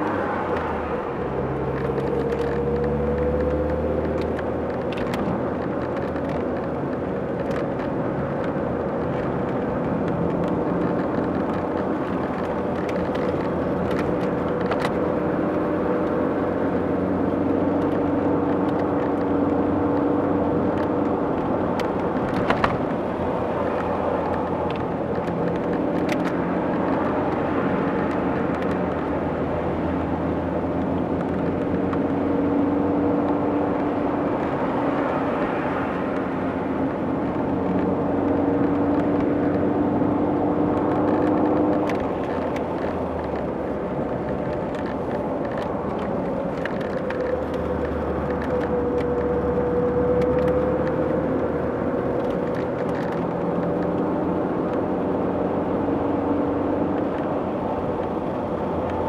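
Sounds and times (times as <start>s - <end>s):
car engine hum: 0.0s - 59.0s
road noise: 0.0s - 59.0s.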